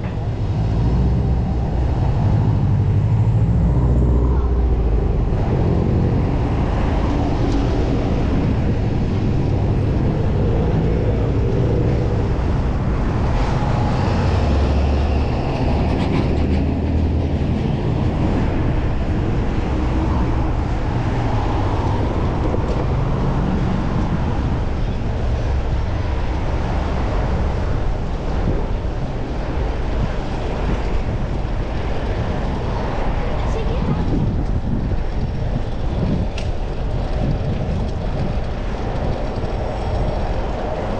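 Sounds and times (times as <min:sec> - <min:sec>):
road traffic: 0:00.0 - 0:40.9
wind buffeting microphone: 0:00.0 - 0:40.9.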